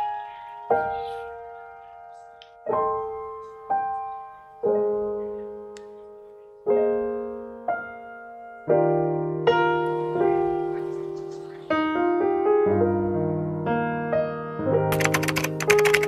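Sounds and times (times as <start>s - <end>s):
slow solo piano music: 0.0s - 16.0s.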